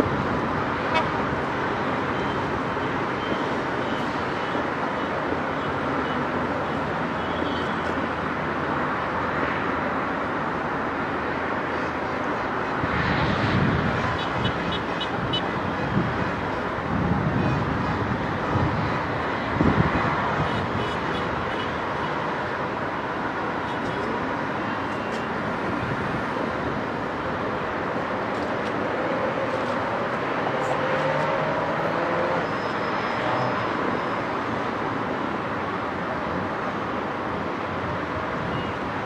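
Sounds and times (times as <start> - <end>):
street traffic: 0.0 - 39.0.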